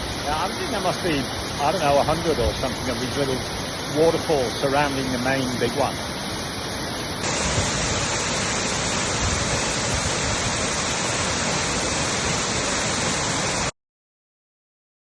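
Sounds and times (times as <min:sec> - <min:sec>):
waterfall rushing: 0:00.0 - 0:13.7.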